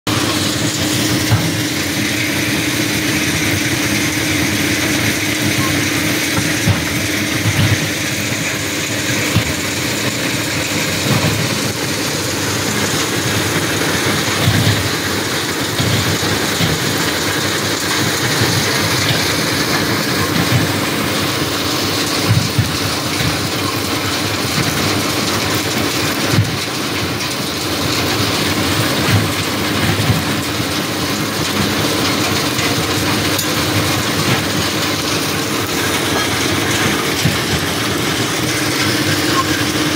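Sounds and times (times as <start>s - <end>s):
stone crusher machine drone: 0.1s - 39.9s.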